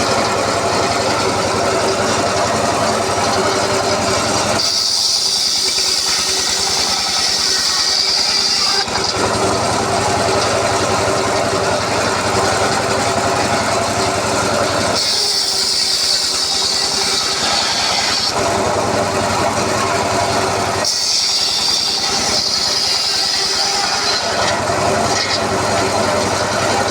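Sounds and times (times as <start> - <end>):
circular saw whining and dinning: 0.0 - 26.9.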